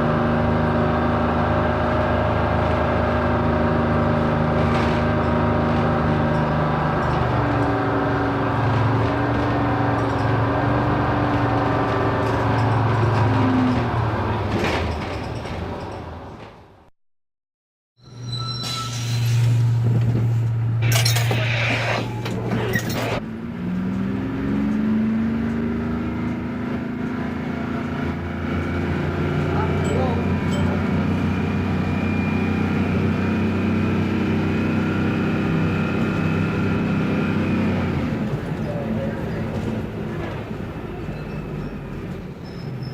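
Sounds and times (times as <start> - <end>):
bus engine running: 0.0 - 16.9, 18.9 - 42.9.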